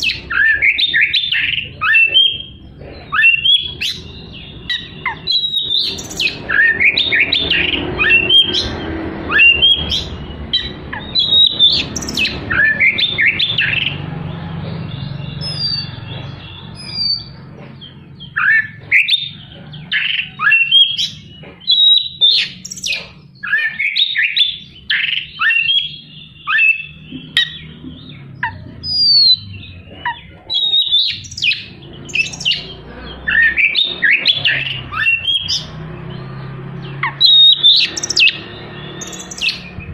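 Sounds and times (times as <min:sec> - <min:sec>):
bird singing whistled notes: 0:00.0 - 0:14.0, 0:14.7 - 0:39.9.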